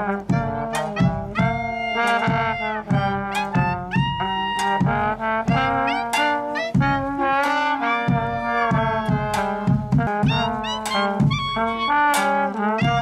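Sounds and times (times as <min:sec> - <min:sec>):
clarinet: 0:00.0 - 0:13.0
slide trombones: 0:00.0 - 0:13.0
street band playing: 0:00.0 - 0:13.0.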